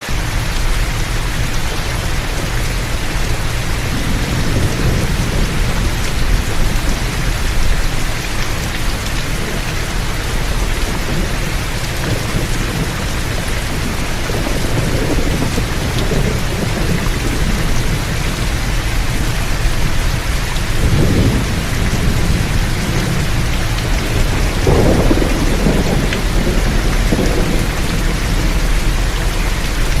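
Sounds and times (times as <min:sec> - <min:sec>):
heavy rain pouring: 0:00.0 - 0:30.0
thunder rumbling: 0:00.1 - 0:30.0.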